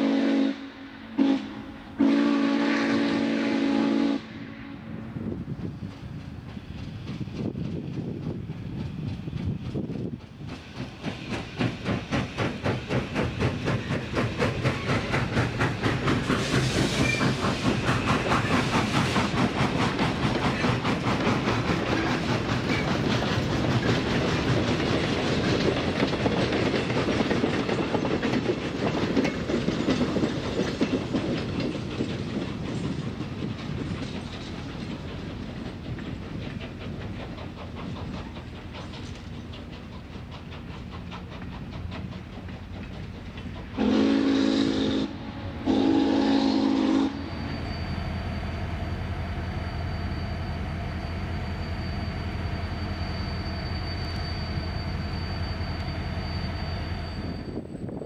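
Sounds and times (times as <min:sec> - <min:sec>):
steam locomotive exhaust beats: 0:00.0 - 0:58.0.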